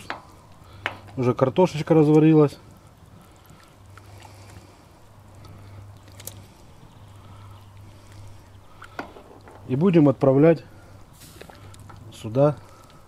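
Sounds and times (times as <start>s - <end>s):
ladle stirring broth: 0.0s - 13.0s
low steady hum: 0.0s - 13.0s
soup bubbling: 0.0s - 13.0s.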